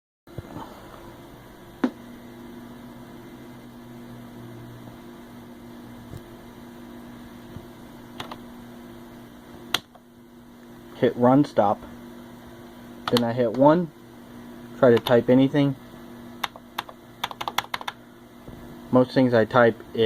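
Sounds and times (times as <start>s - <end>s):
electrical hum: 0.3s - 20.0s.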